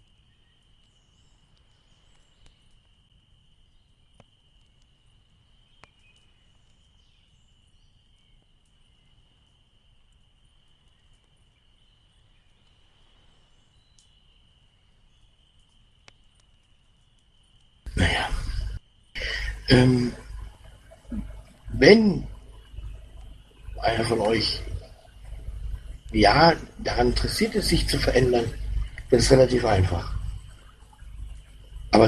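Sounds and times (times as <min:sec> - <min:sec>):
faint clicks: 0:00.0 - 0:32.0.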